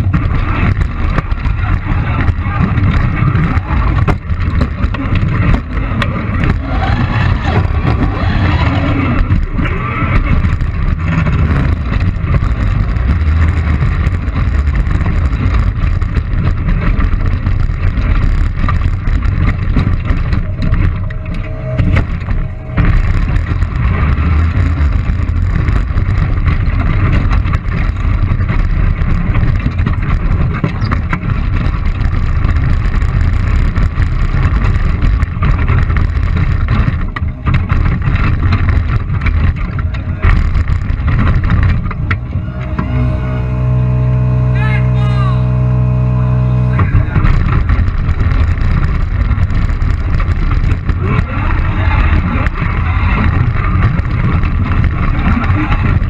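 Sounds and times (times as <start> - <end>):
heavy steady rumble of robot driving: 0.0 - 56.0.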